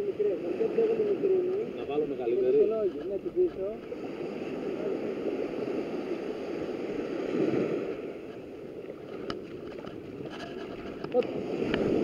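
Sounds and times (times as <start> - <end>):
small waves lapping on shore: 0.0 - 12.0.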